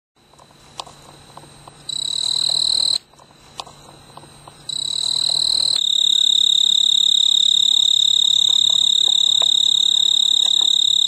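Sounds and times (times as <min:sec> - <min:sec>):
cricket pulsing trill: 0:01.7 - 0:11.0.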